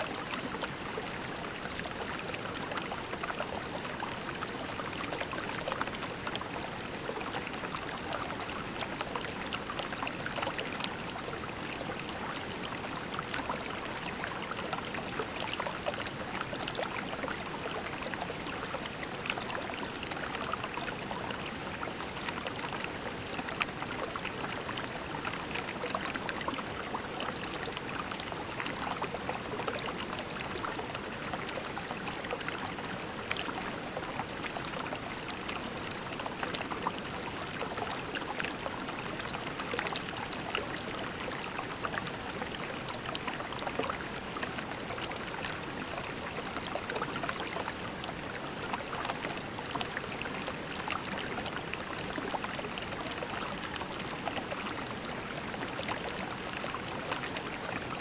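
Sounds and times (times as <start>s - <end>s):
creek water babbling over pebbles: 0.0s - 58.0s.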